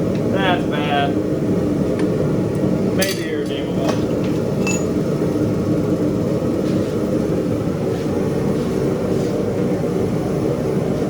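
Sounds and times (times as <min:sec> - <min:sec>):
forge burner rushing: 0:00.0 - 0:11.0.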